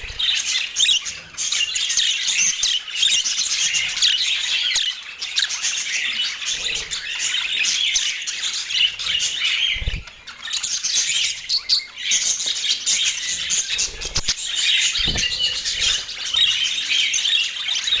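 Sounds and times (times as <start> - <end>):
budgerigars chattering and warbling: 0.0 - 18.0.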